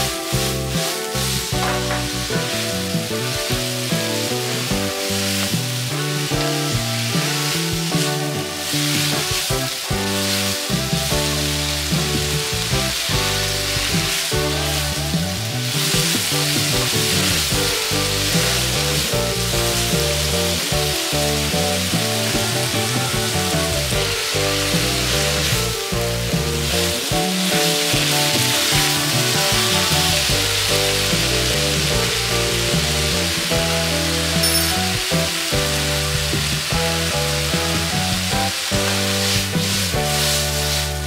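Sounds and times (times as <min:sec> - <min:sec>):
background music: 0:00.0 - 0:41.0
food sizzling in a wok: 0:00.0 - 0:41.0.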